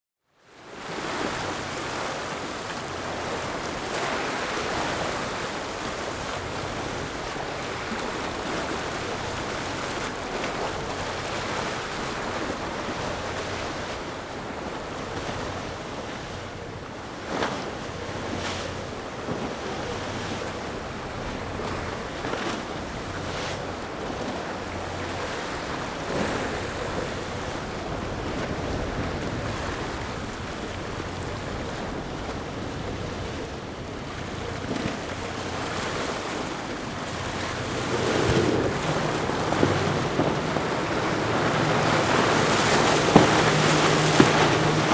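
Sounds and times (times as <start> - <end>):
choppy water splashing: 0.6 - 44.9
wind buffeting microphone: 1.0 - 44.9.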